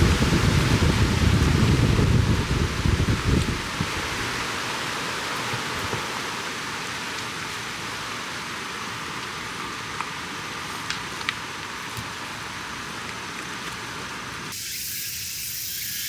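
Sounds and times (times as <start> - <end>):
heavy rain falling: 0.0 - 13.3.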